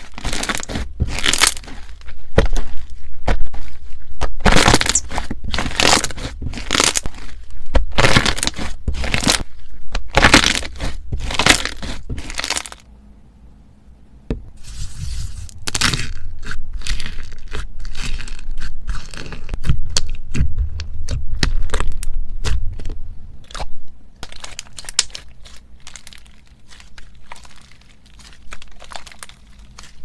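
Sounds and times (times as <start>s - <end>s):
slime squeezed crackling: 0.0s - 12.8s, 15.5s - 30.0s.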